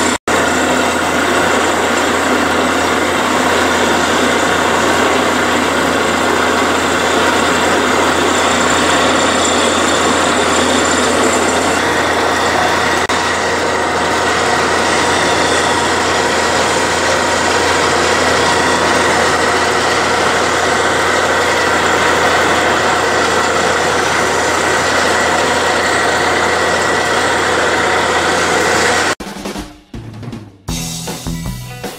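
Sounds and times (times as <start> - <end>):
diesel engines running: 0.0 - 29.2.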